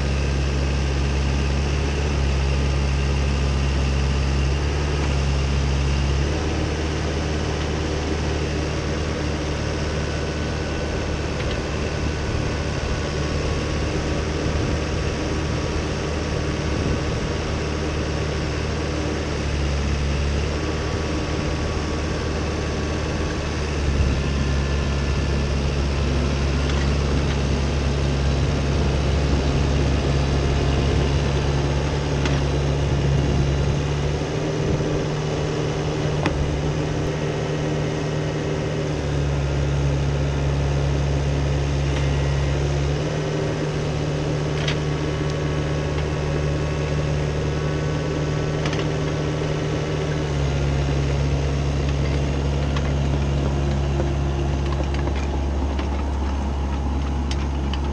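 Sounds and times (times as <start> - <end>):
excavator diesel engine drone: 0.0 - 57.9.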